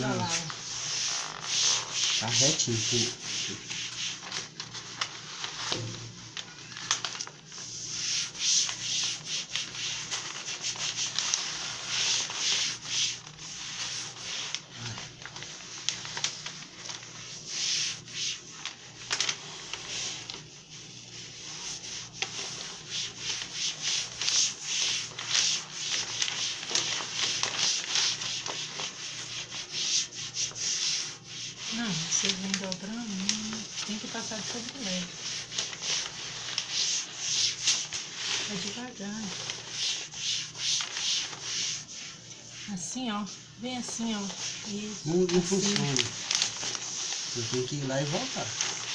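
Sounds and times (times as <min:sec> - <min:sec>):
cloth rubbing over contact paper: 0:00.0 - 0:48.9.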